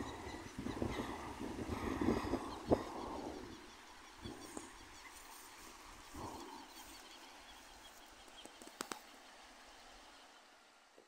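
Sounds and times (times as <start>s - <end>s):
river flowing: 0.0s - 11.0s.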